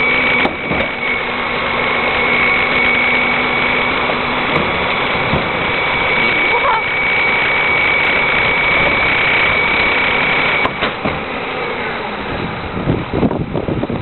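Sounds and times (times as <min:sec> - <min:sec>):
garbage truck engine running: 0:00.0 - 0:14.0
high whine: 0:00.0 - 0:14.0.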